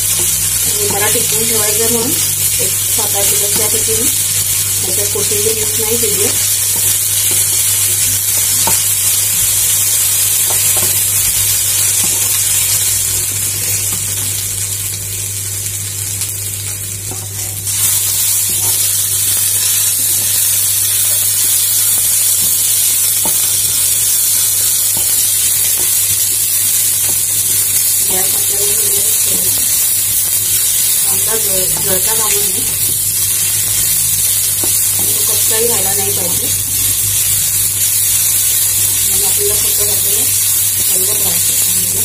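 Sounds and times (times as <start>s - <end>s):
onions sizzling in oil: 0.0s - 42.0s.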